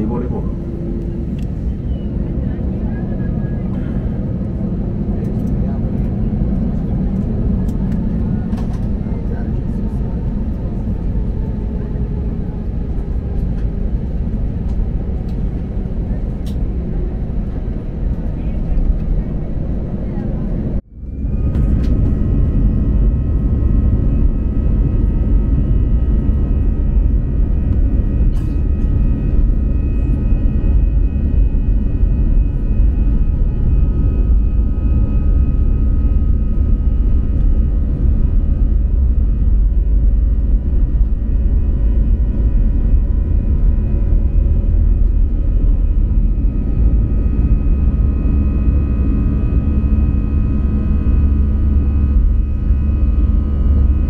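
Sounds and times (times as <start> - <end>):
jet engines roaring from cabin: 0.0 - 54.0.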